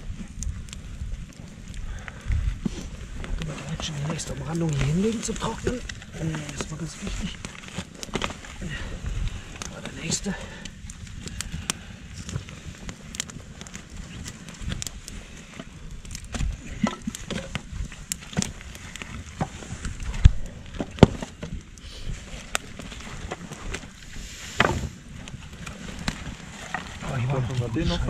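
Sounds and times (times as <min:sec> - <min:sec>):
twigs and firewood snapping: 0:00.0 - 0:28.0.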